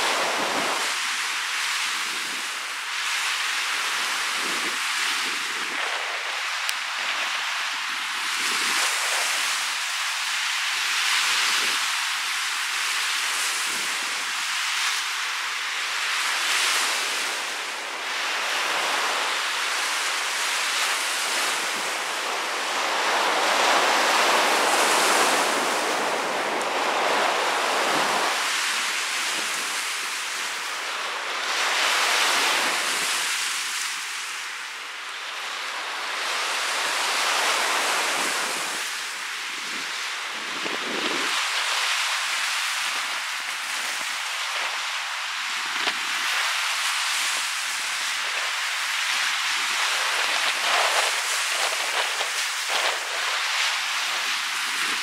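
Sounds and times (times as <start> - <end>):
waves washing up a shore: 0.0 - 55.0
wind blowing across microphone: 0.0 - 55.0.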